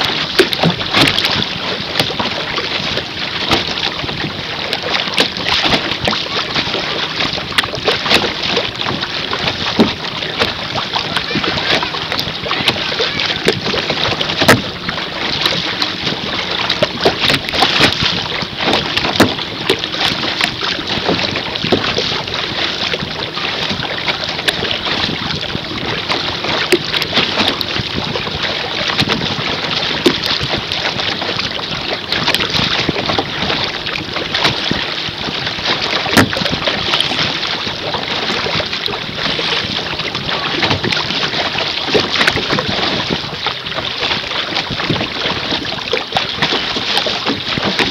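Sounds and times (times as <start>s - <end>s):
water splashing against boat hull: 0.0s - 47.9s
wind buffeting microphone: 0.0s - 47.9s.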